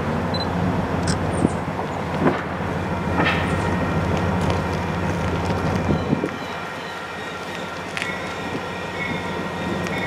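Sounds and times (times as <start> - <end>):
diesel train engine drone: 0.0 - 10.0.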